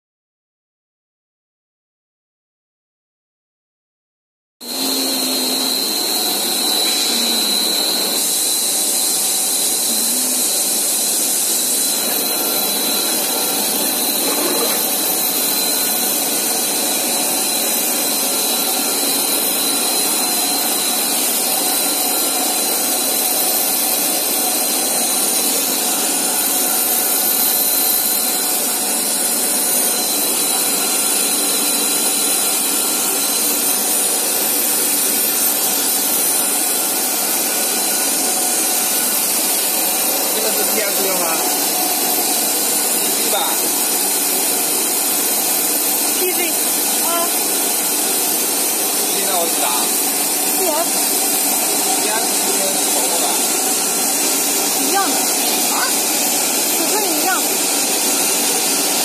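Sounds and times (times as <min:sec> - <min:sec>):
extrusion machinery running: 0:04.6 - 0:59.0
high machine whine: 0:04.6 - 0:59.0.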